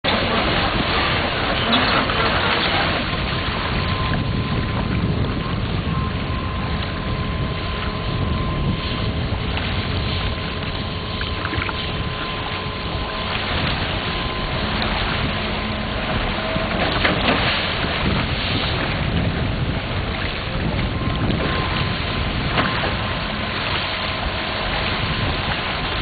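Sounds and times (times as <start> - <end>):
water rushing through channel: 0.0 - 26.0
wind noise on microphone: 0.0 - 26.0.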